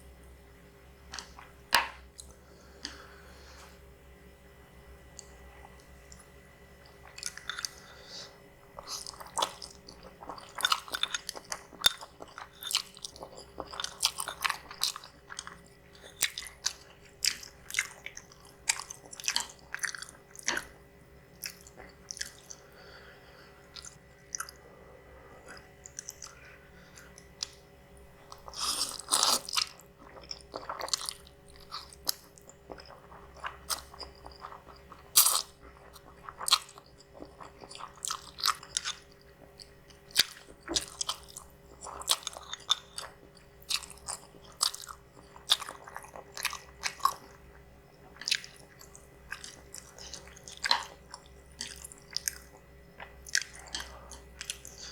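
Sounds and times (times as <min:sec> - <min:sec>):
wet chewing with mouth clicks: 0:05.1 - 0:23.0, 0:23.6 - 0:24.7, 0:25.3 - 0:54.9.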